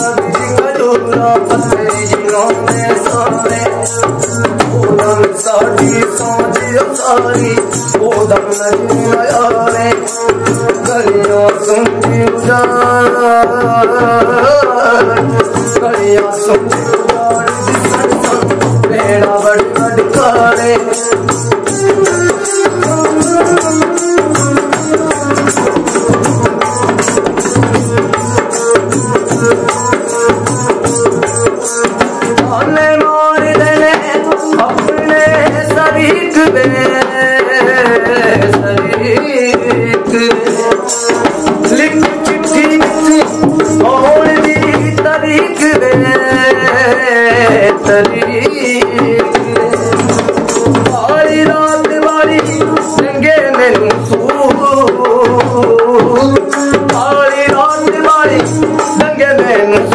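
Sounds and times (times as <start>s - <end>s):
hand drum rhythm: 0.0s - 59.9s.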